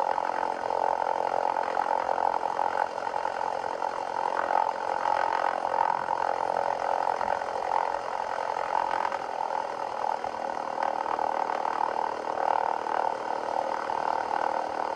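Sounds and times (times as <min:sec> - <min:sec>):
propeller plane engine drone: 0:00.0 - 0:14.9.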